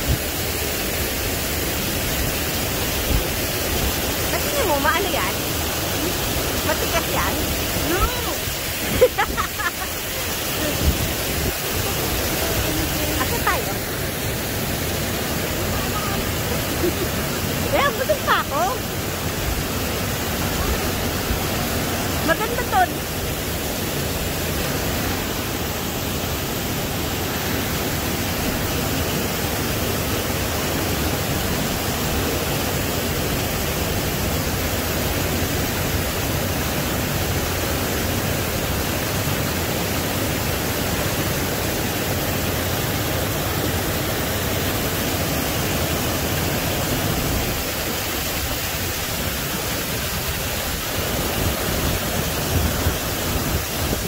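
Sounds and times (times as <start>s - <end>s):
waterfall over rocks: 0.0s - 54.0s.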